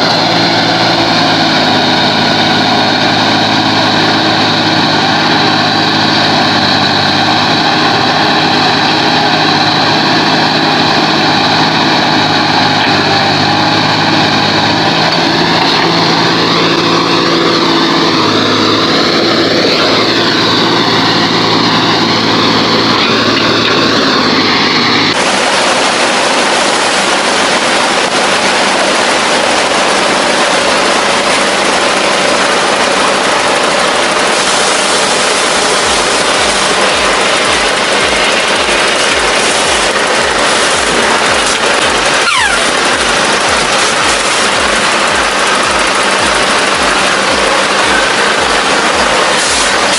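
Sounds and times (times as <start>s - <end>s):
noisy rumble: 0.0s - 49.9s
truck engine revving: 0.0s - 49.9s.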